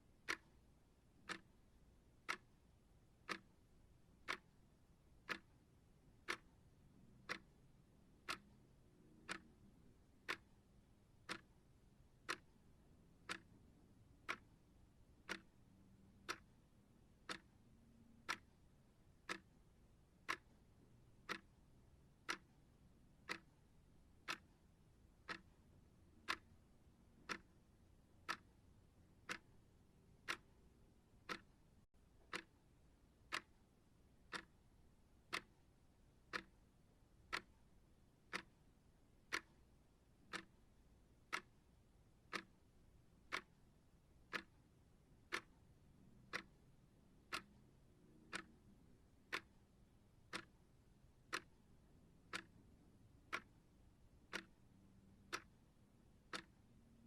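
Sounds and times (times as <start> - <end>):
faint low hiss: 0.0 - 57.0
clock ticking: 0.1 - 57.0.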